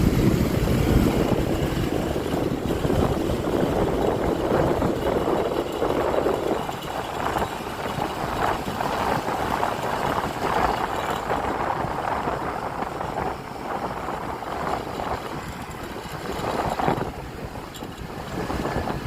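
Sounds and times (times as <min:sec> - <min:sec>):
scooter engine and road noise: 0:00.0 - 0:19.0
wind buffeting microphone: 0:00.0 - 0:19.0.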